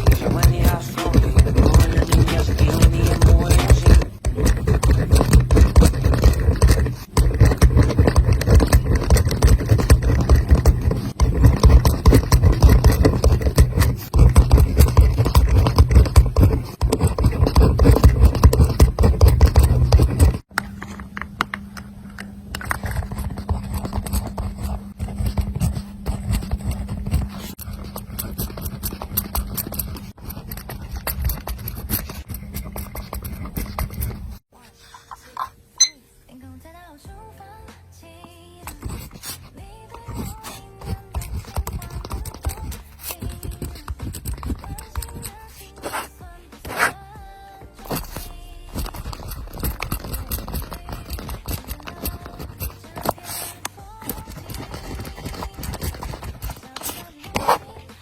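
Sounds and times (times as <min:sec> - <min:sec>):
pen scratching on paper: 0:00.0 - 0:20.5, 0:22.6 - 0:34.5, 0:38.6 - 0:47.1, 0:47.7 - 0:58.0.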